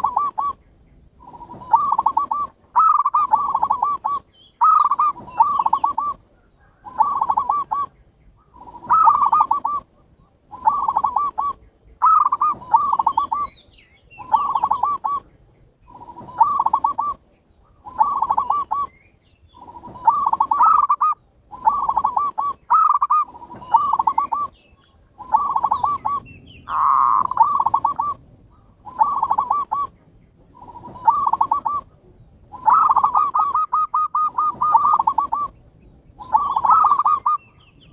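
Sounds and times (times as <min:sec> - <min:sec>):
doves cooing: 0:00.0 - 0:37.9.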